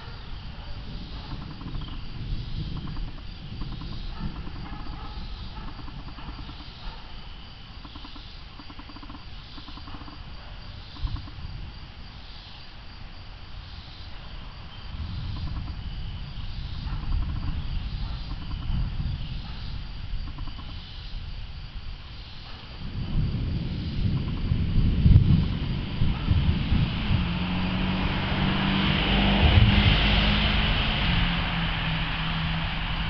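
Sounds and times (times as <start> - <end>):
insects chirping: 0.0 - 33.0
wind gusting on microphone: 0.0 - 33.0.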